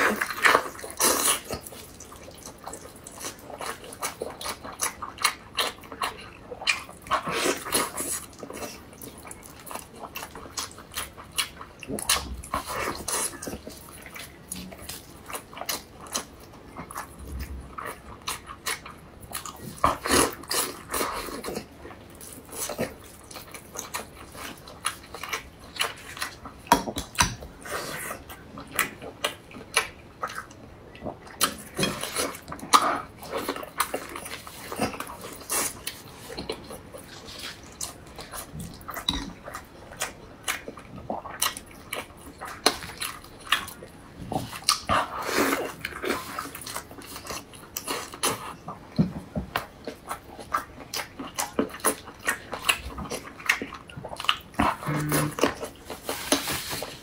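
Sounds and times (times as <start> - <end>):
wet chewing and lip smacking: 0.0 - 57.0.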